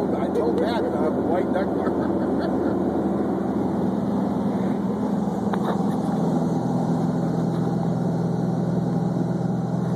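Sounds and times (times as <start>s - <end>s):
propeller airplane engine drone: 0.0s - 9.9s.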